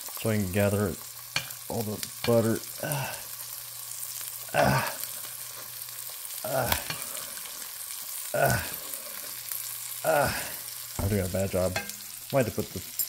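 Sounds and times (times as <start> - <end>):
steak sizzling in a pan: 0.0 - 13.0.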